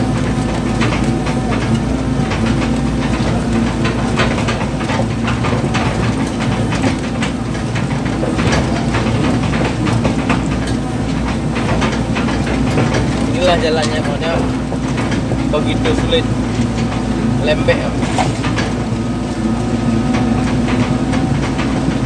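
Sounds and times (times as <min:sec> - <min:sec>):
diesel engine running: 0:00.0 - 0:22.0
tracks clanking and rattling: 0:00.0 - 0:22.0.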